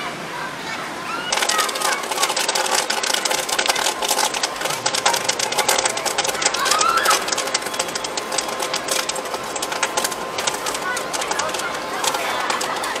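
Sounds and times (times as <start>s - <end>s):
popcorn popping: 1.3s - 13.0s.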